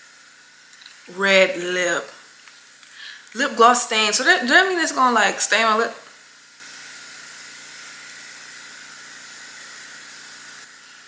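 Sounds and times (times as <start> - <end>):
steady hiss from building work: 0.0 - 11.0.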